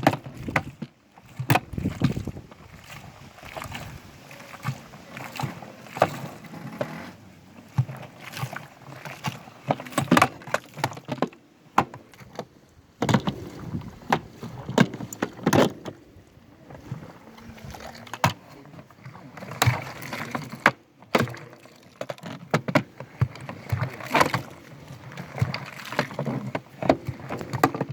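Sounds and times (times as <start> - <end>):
water sloshing in washing machine: 0.0 - 27.9.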